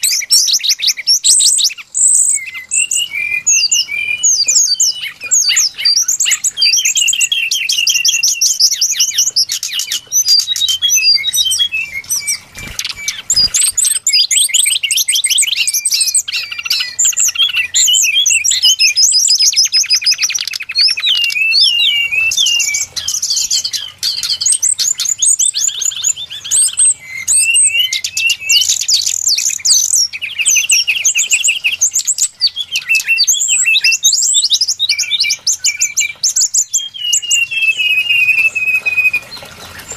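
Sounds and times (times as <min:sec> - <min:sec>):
bird song with rapid chirps and trills: 0:00.0 - 0:39.9.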